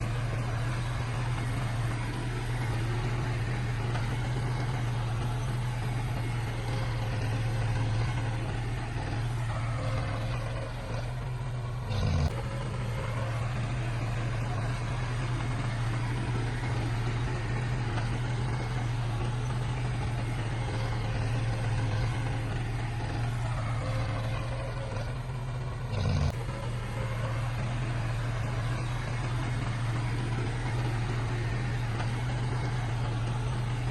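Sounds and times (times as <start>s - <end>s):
heavy diesel engine droning: 0.0s - 33.9s.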